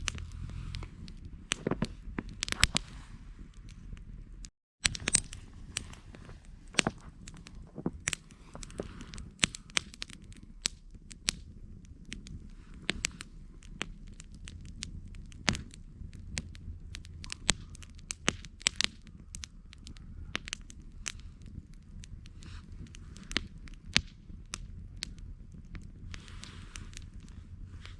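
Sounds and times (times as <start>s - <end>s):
campfire crackling and popping: 0.0s - 27.9s
low rumble of flames: 0.0s - 27.9s.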